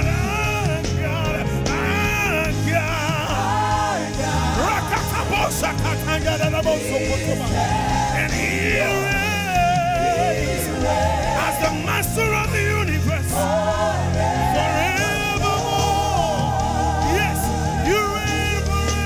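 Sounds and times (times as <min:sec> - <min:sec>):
gospel singers with vibrato: 0:00.0 - 0:19.0
instrumental accompaniment: 0:00.0 - 0:19.0.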